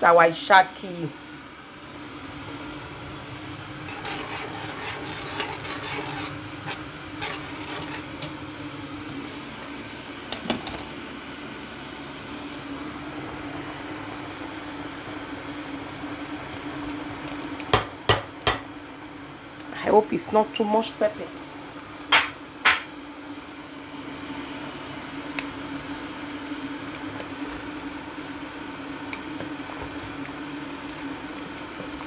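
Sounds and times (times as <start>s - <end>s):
kitchen hum: 0.0s - 32.0s.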